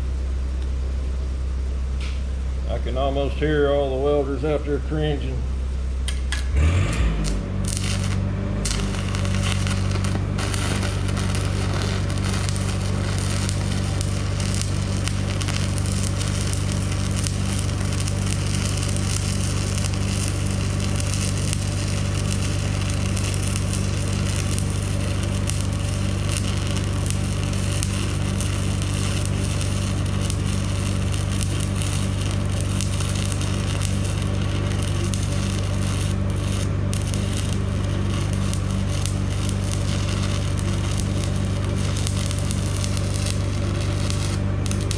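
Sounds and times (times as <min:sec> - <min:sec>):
low hum: 0:00.0 - 0:44.9
welding arc crackling: 0:06.0 - 0:44.9.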